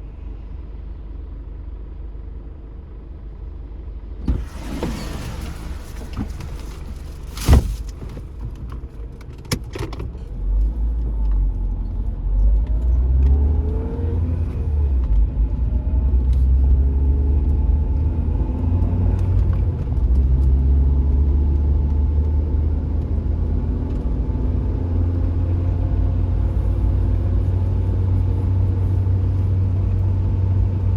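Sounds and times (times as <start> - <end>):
car road and engine rumble: 0.0 - 30.9.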